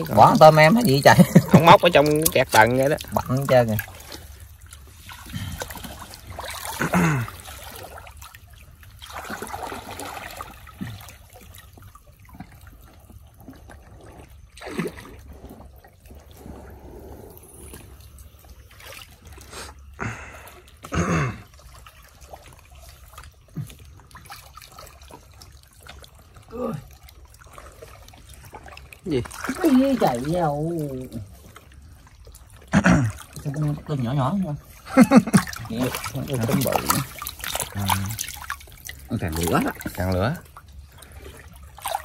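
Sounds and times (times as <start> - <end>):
water trickling and splashing: 0.0 - 42.0.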